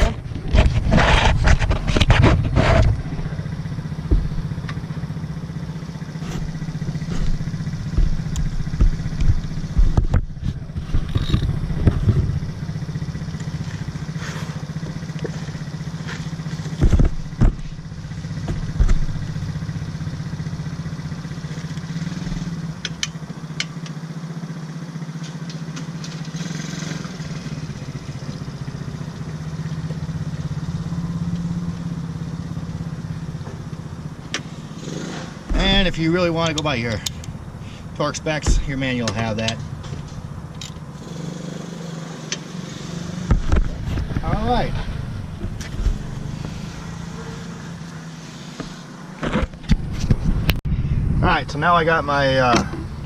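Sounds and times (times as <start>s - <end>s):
engine drone: 0.0s - 53.0s.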